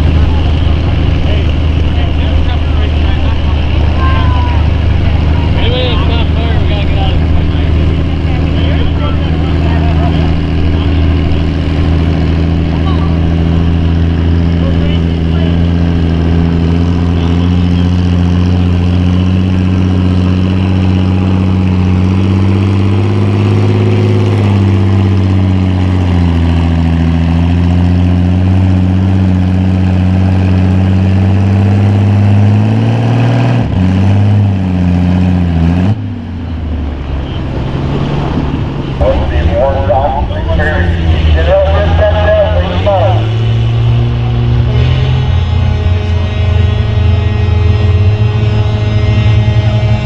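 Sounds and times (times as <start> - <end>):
tractor engine running under load: 0.0 - 50.0.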